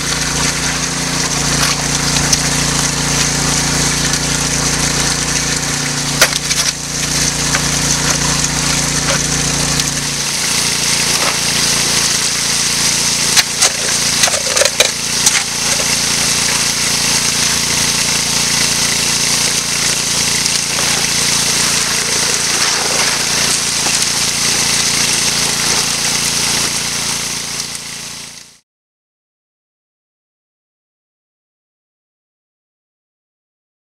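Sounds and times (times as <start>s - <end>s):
gas engine water pump running: 0.0s - 28.6s
water rushing through sluice: 0.0s - 28.6s.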